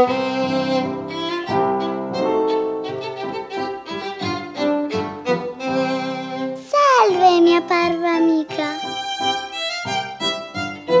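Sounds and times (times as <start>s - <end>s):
violin melody: 0.0s - 11.0s.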